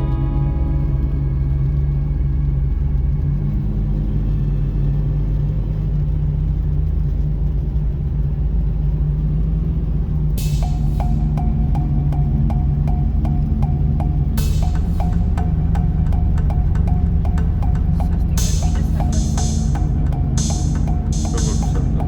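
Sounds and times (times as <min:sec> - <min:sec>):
car engine humming: 0:00.0 - 0:22.0.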